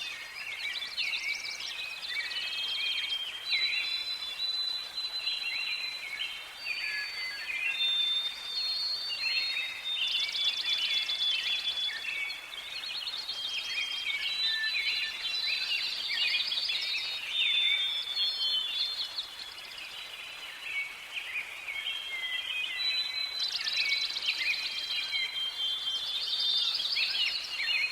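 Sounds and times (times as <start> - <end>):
birds singing and trilling: 0.0 - 27.9
faint steady hiss: 0.0 - 27.9.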